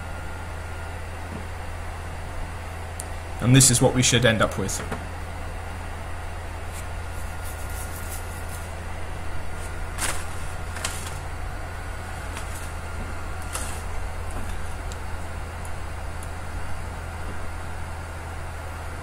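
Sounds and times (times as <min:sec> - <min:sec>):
low electrical hum and hiss: 0:00.0 - 0:19.0.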